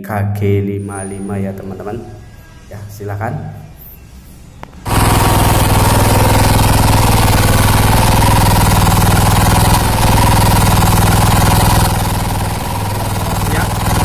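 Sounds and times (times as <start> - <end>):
gasoline engine running: 0.7 - 14.0.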